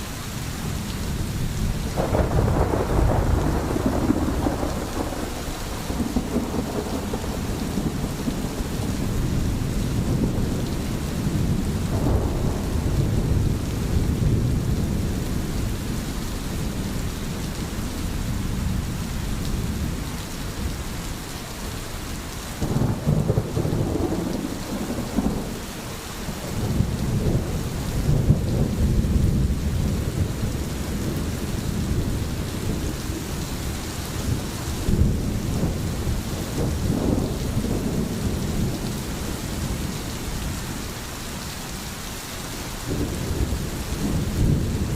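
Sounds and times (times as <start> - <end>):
heavy rain: 0.0 - 44.9
rolling thunder: 0.8 - 20.8, 22.6 - 40.8, 42.8 - 44.9.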